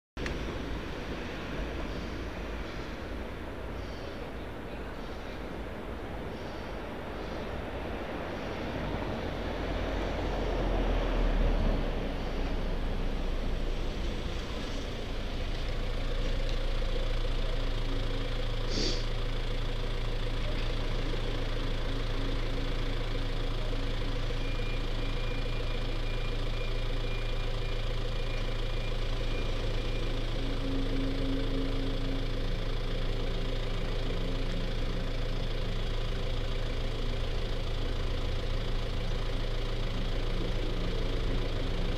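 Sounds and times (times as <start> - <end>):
engine idling: 0.2 - 41.9.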